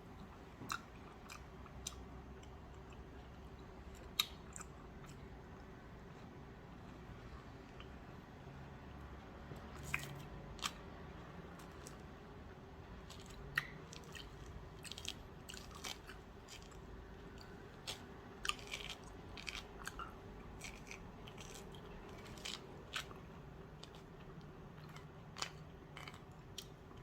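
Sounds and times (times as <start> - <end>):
low steady hum: 0.0 - 27.0
person chewing: 0.2 - 8.2, 9.6 - 10.9, 11.6 - 12.0, 13.0 - 27.0.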